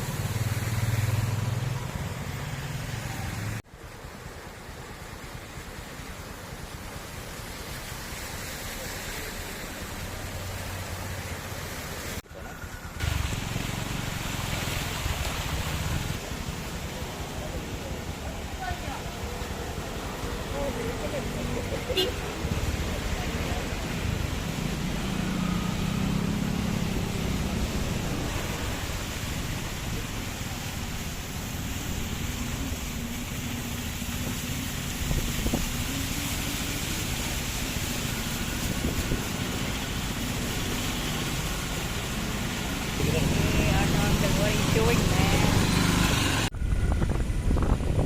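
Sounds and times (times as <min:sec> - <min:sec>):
road and wind noise: 0:00.0 - 0:48.0
vehicle engine rumble: 0:00.0 - 0:48.0.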